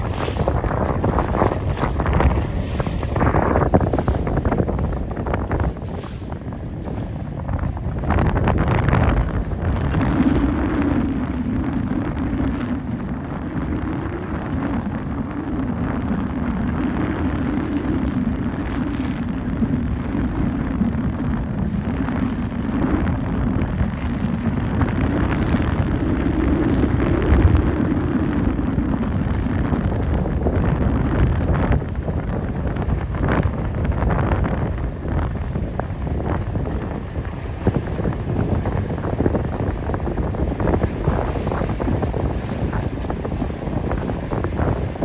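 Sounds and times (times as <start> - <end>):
boat motor drone: 0.0 - 45.0
wind buffeting microphone: 0.0 - 45.0.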